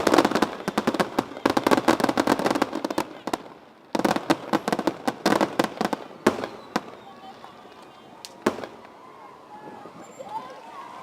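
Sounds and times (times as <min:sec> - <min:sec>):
fireworks bangs and crackles: 0:00.0 - 0:09.0.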